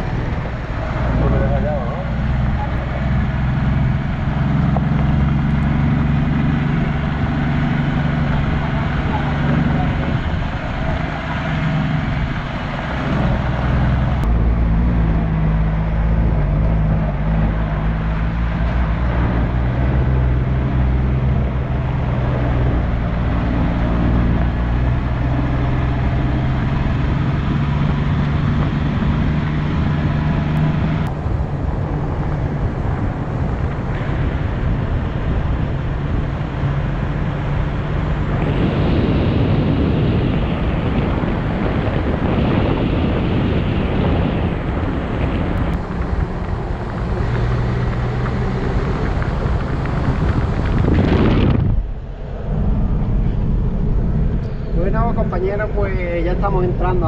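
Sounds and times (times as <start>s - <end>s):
car engine running: 0.0s - 57.0s
tyre and road noise: 0.0s - 57.0s.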